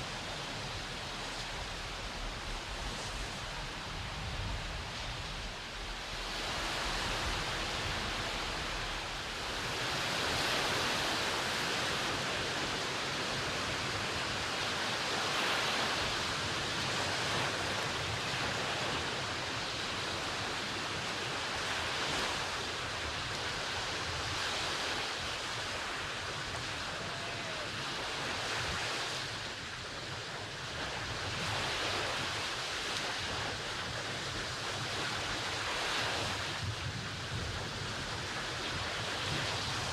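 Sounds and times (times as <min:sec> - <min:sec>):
ocean waves on beach: 0:00.0 - 0:39.9
wind on microphone: 0:00.0 - 0:39.9.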